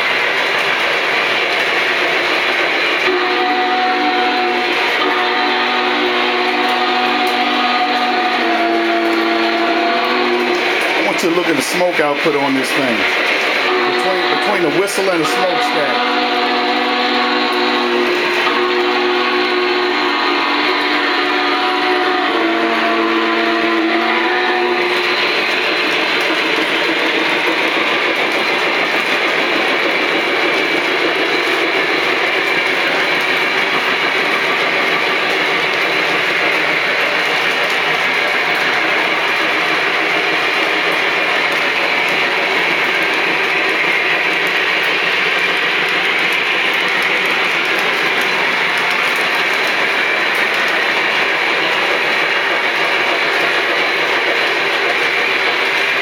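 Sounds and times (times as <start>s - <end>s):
model train rushing noise: 0.0s - 56.0s
model train whistle: 2.9s - 56.0s.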